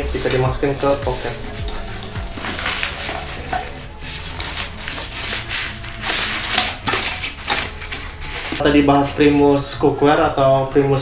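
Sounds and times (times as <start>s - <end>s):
mesh pouch rustling and scraping: 0.0s - 9.6s.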